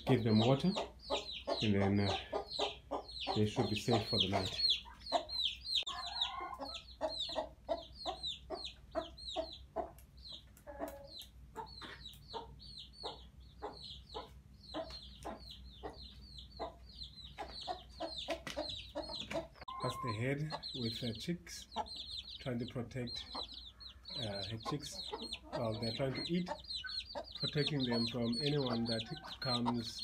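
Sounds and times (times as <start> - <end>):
chicks peeping: 0.0 - 30.0
hen clucking: 0.0 - 30.0.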